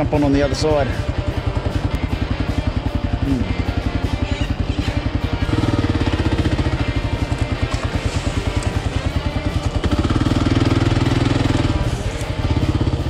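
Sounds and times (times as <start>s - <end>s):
single-cylinder motorcycle engine: 0.0s - 13.0s.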